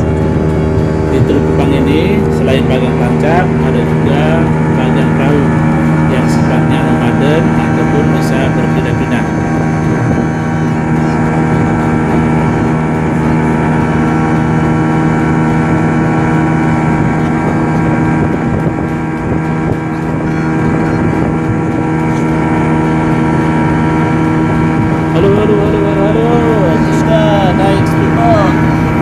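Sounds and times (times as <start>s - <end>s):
outboard motor hum: 0.0s - 29.0s
wind on microphone: 0.0s - 29.0s.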